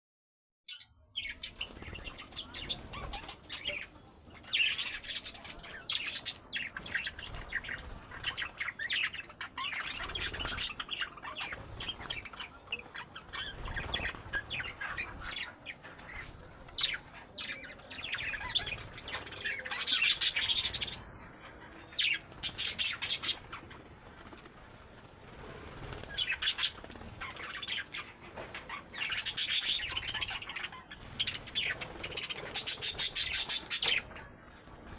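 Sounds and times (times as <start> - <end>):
budgerigars chirping and chattering: 0.7 - 34.9
wing fluttering: 1.4 - 34.9.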